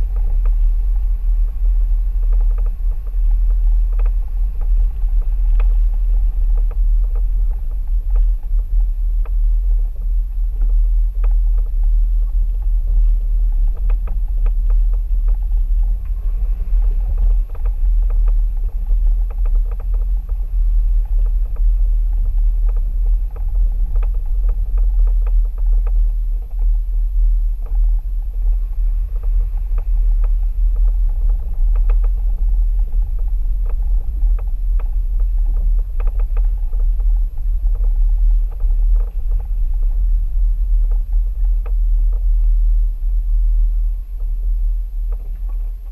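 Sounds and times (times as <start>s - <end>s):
stones clicking under tyres: 0.0s - 43.3s
vehicle rumble on gravel track: 0.0s - 45.9s.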